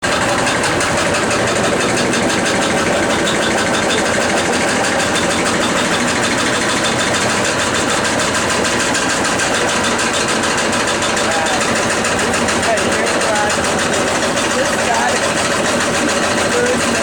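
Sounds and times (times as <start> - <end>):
washing machine rattling and humming: 0.0 - 17.0.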